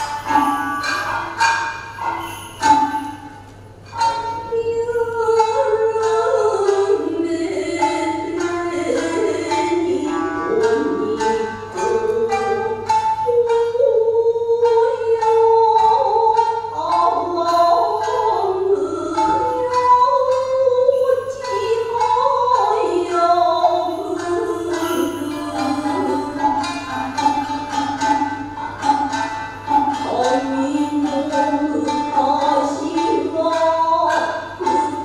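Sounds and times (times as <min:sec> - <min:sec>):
plucked strings: 0:00.0 - 0:35.0.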